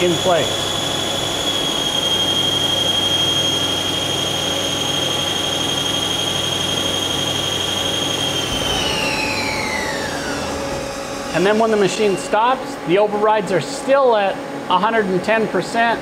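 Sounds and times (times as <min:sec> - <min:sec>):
rush of machining noise: 0:00.0 - 0:14.6
lathe spindle whine: 0:00.0 - 0:16.0.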